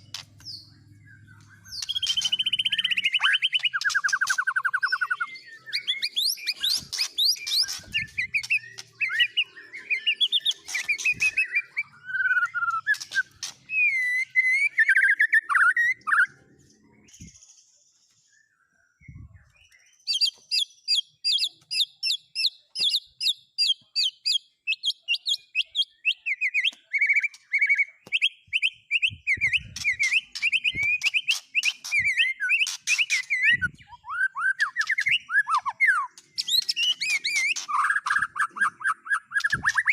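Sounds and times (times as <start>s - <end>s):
small songbird singing: 0.0s - 39.9s.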